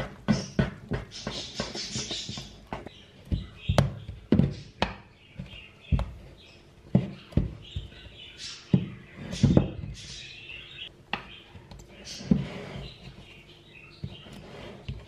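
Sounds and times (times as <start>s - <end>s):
spatula scraping dough: 0.0s - 4.8s, 5.4s - 10.3s, 11.9s - 15.0s.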